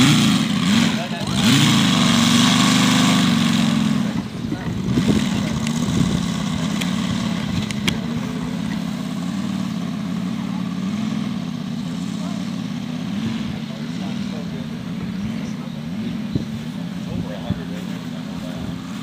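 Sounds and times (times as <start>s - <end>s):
model plane engine running: 0.0s - 19.0s.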